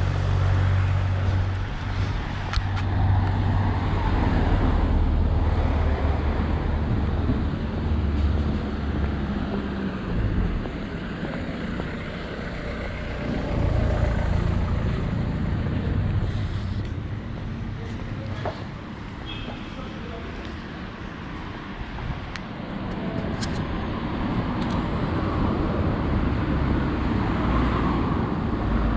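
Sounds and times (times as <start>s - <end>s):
traffic engines rumbling: 0.0s - 28.9s.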